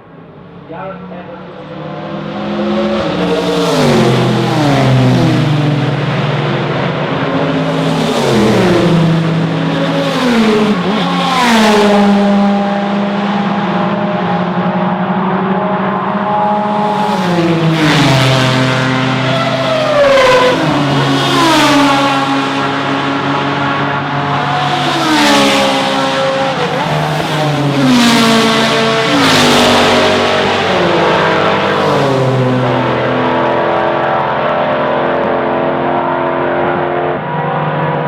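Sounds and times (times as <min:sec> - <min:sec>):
race cars passing at speed: 0:00.0 - 0:38.0.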